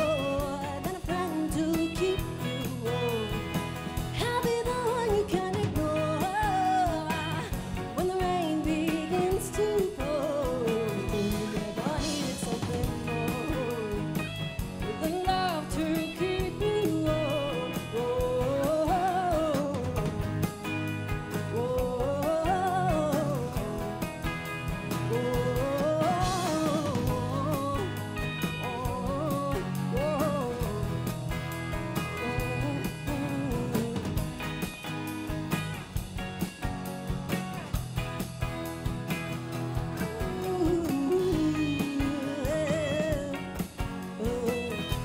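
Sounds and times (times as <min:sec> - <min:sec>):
woman singing: 0:00.0 - 0:34.9, 0:39.6 - 0:45.0
drum kit: 0:00.0 - 0:45.0
electric guitars: 0:00.0 - 0:45.0
strummed acoustic guitar: 0:00.0 - 0:45.0.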